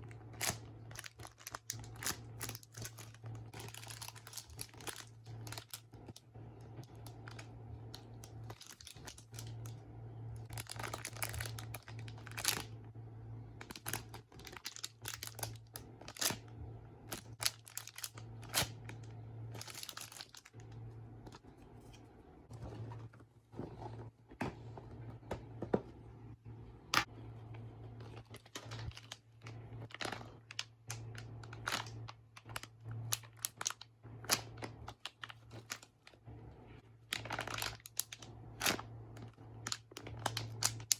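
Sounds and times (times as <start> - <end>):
plastic packaging crinkling: 0.0 - 12.8, 13.5 - 23.0, 27.0 - 36.2, 37.0 - 40.9
low steady hum: 0.0 - 40.9.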